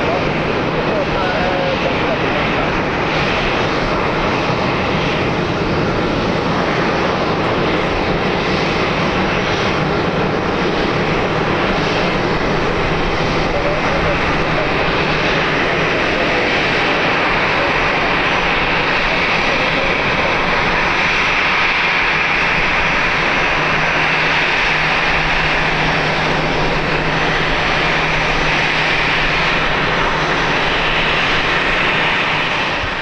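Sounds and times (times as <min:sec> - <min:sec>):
airliner engines roaring: 0:00.0 - 0:33.0.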